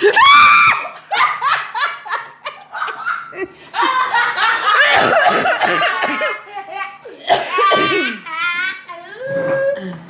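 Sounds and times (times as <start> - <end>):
children laughing: 0.0 - 9.2.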